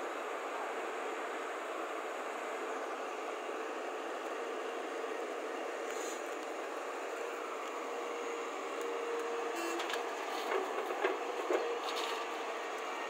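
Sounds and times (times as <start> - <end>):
excavator engine whining: 0.0 - 13.0.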